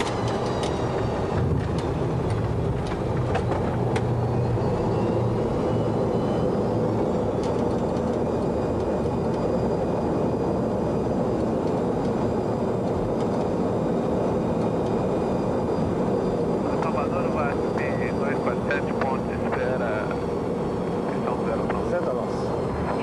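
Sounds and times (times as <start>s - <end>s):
jet engine and airflow rumble: 0.0s - 23.0s
faint high whines: 2.9s - 23.0s.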